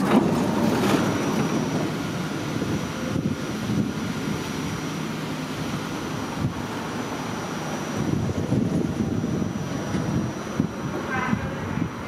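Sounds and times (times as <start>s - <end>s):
subway doors opening: 0.0s - 7.0s, 8.0s - 12.0s
stopped train low noise: 0.0s - 12.0s.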